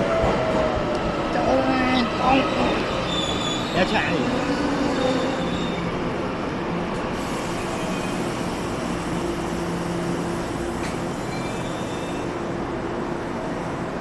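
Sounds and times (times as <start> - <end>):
electric train rumbling to a stop: 0.0 - 14.0.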